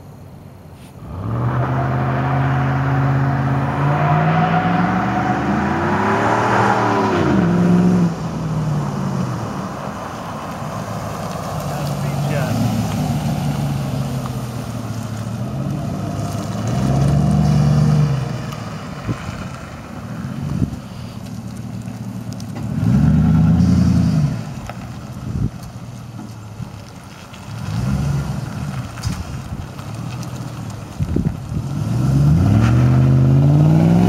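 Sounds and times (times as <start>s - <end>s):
truck engine idling and revving: 0.0s - 34.0s.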